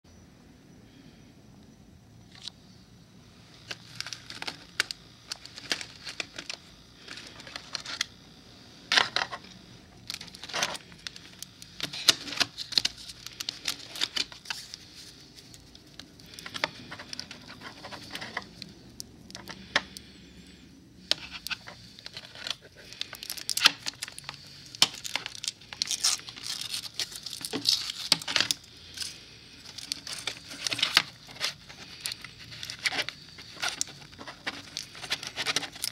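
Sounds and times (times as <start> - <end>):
plastic packaging crinkling: 3.6 - 8.2, 8.9 - 18.7, 21.1 - 35.9.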